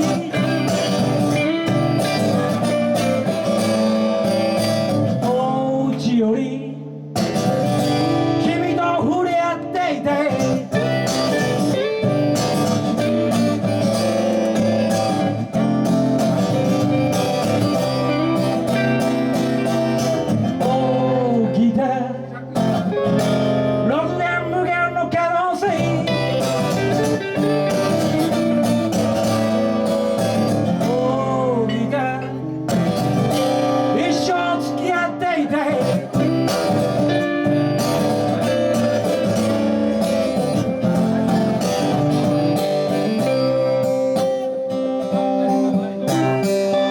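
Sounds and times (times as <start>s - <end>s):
person singing: 0.0s - 15.6s, 16.4s - 46.9s
live band led by guitar: 0.0s - 46.9s.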